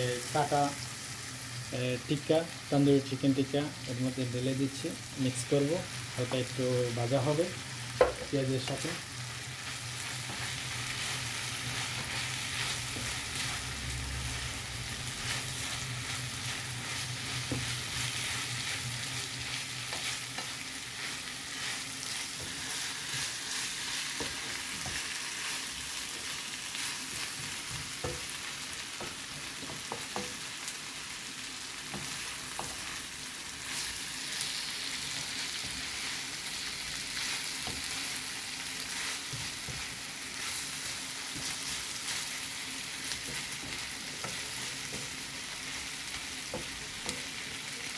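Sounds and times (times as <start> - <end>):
food sizzling in a frying pan: 0.0 - 47.9.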